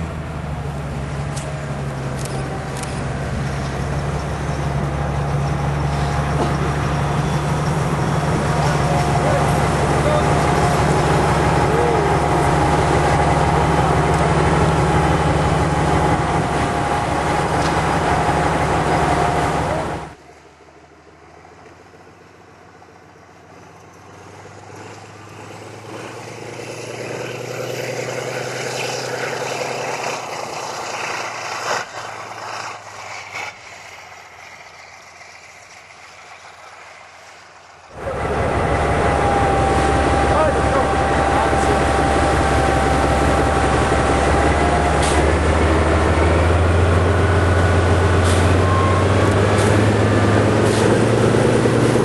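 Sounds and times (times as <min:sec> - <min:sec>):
diesel locomotive engine droning: 0:00.0 - 0:52.0
train passing: 0:00.0 - 0:52.0.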